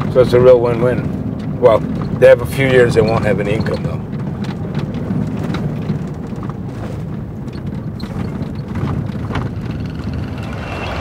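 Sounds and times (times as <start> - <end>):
vehicle engine rumbling: 0.0 - 11.0
faint knocks and clicks: 1.0 - 10.3.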